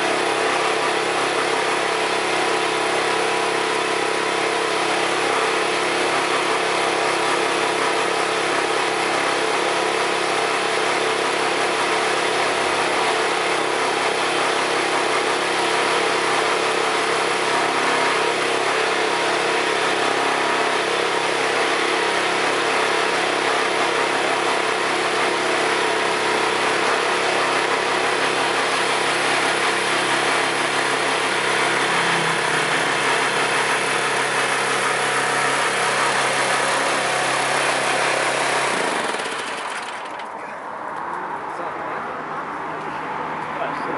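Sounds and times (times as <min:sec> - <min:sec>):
steady machine noise: 0:00.0 - 0:43.9.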